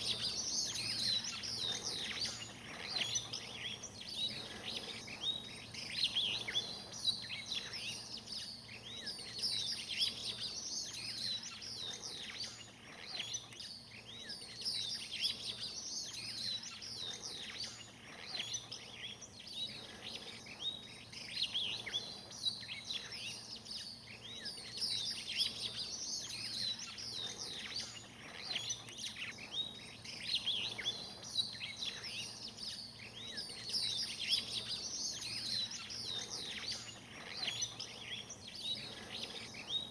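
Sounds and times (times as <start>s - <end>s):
faint low hum: 0.0s - 39.9s
many birds chirping: 0.0s - 39.9s.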